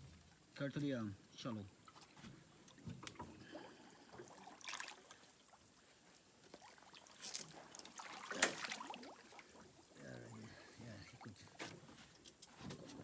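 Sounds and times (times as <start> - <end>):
water splashing: 1.8 - 12.3.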